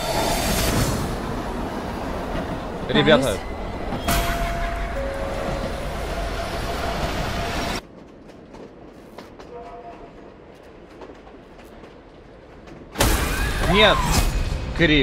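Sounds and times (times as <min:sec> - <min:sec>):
subway train running: 0:00.0 - 0:13.8.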